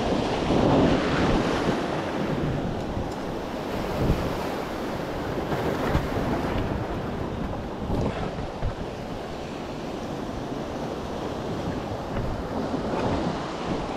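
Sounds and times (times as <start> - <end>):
waves washing: 0.0 - 13.9
wind buffeting microphone: 0.0 - 13.9.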